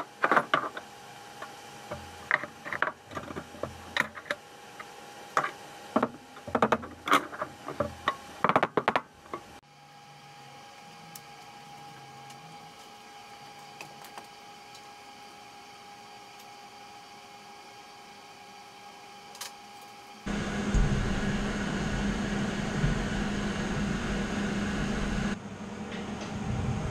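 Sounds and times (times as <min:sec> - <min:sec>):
shop hum: 0:00.0 - 0:26.9.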